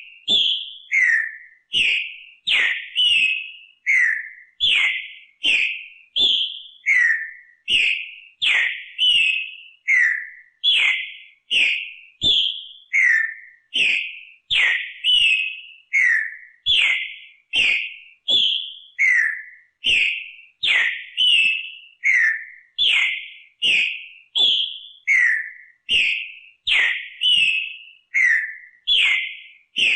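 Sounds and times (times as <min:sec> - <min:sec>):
bird singing falling whistles: 0:00.0 - 0:29.9.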